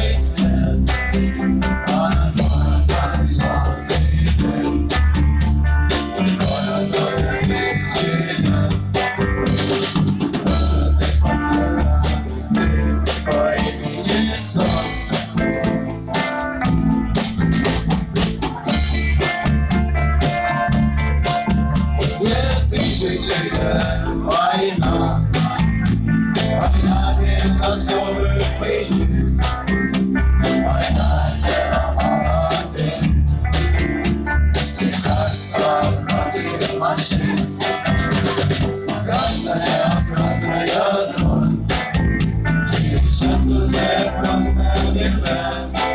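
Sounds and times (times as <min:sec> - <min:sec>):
band playing: 0:00.0 - 0:45.9
drum kit beat: 0:00.0 - 0:45.9
pop-rock song with singing: 0:00.0 - 0:45.9.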